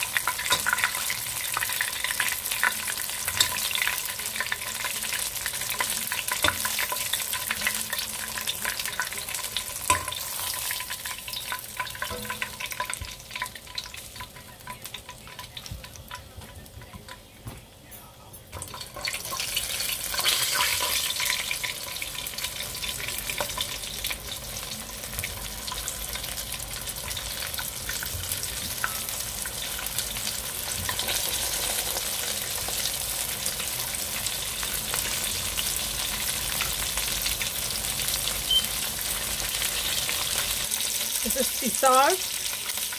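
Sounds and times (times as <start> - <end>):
chicken wings deep-frying in oil: 0.0 - 42.9.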